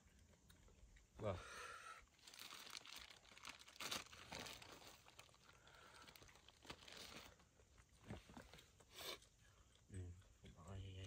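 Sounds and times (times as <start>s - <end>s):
faint rustling and crinkling: 2.0s - 11.0s.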